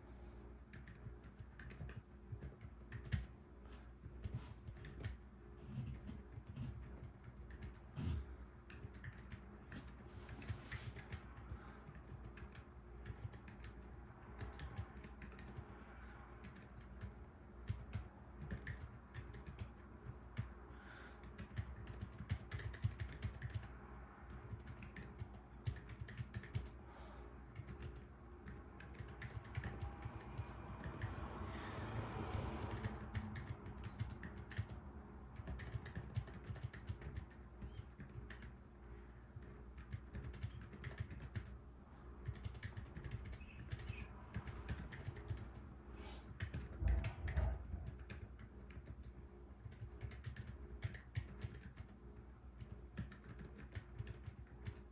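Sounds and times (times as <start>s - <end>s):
muted keyboard typing: 0.6s - 20.6s, 21.2s - 26.8s, 27.5s - 38.6s, 39.2s - 41.6s, 42.2s - 45.7s, 46.3s - 54.9s.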